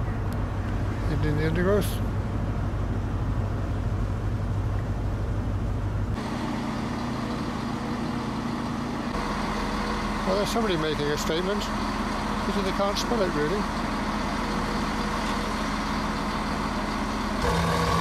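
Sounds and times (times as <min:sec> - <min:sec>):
diesel train engine idling: 0:00.0 - 0:18.0.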